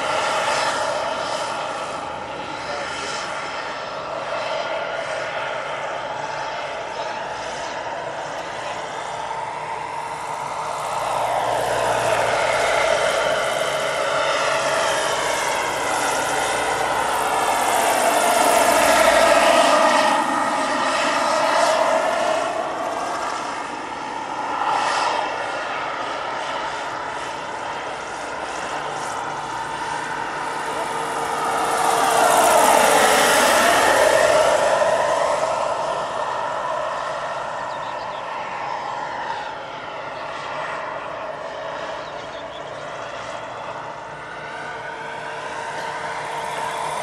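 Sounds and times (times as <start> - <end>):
model helicopter turbine and rotors: 0.0 - 47.0.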